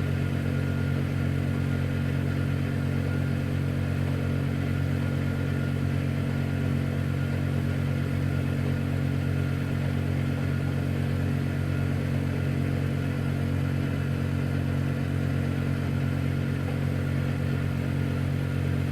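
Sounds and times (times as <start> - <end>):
tumble dryer motor hum: 0.0 - 18.9.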